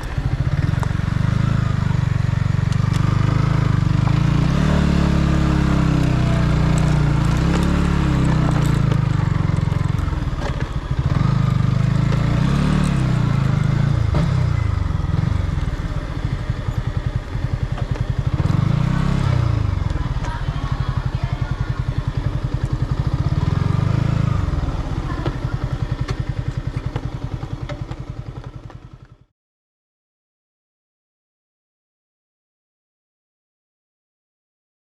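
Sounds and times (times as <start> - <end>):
motorcycle engine revving: 0.0 - 29.3.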